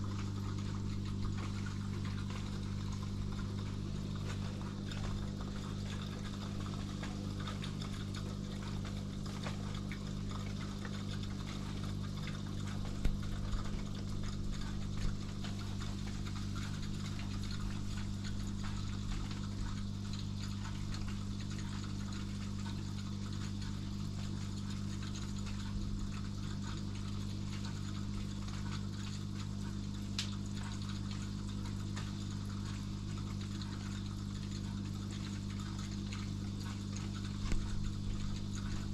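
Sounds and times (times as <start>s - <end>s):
aquarium pump humming: 0.0s - 38.9s.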